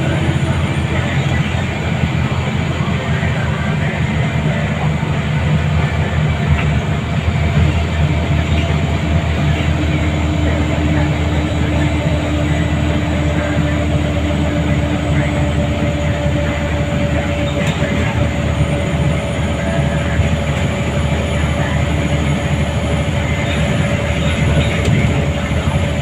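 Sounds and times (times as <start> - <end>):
bus diesel engine drone: 0.0 - 26.0.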